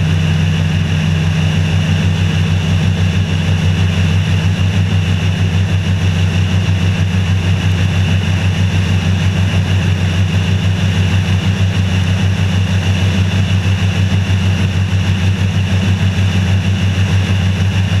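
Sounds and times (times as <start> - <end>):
outboard motor running: 0.0 - 18.0
rush of wind and water: 0.0 - 18.0.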